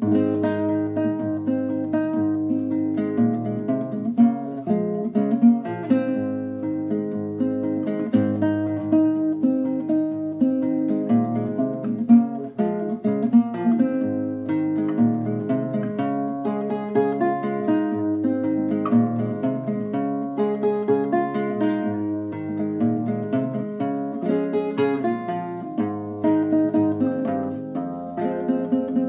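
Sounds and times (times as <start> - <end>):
fingerpicked classical guitar: 0.0 - 29.0.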